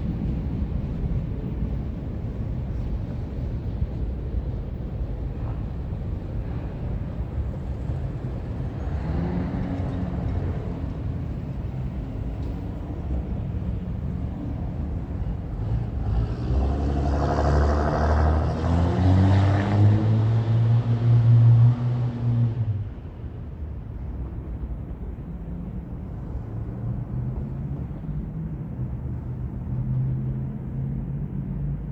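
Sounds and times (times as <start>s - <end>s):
train wheels rumbling on rails: 0.0s - 19.1s, 19.7s - 31.9s
diesel locomotive engine drone: 0.0s - 31.9s.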